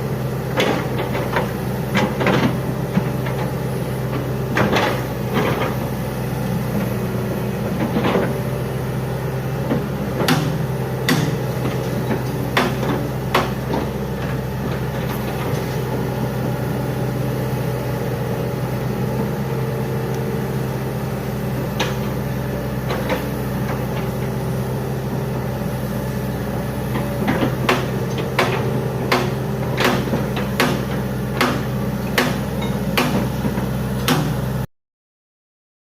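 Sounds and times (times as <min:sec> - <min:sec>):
excavator diesel engine running: 0:00.0 - 0:34.7.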